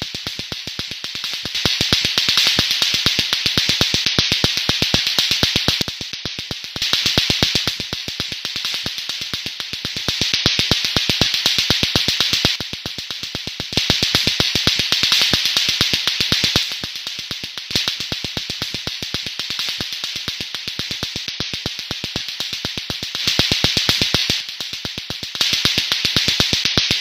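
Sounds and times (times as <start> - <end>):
hiss: 0.0 - 27.0.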